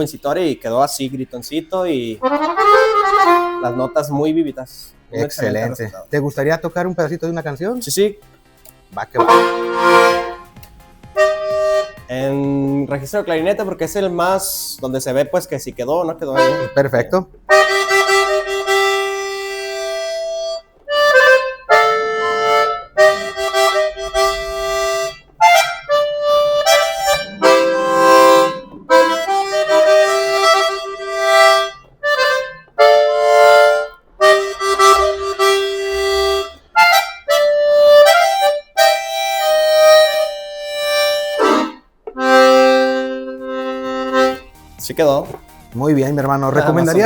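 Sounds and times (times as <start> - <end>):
accordion melody: 0.0 - 47.0.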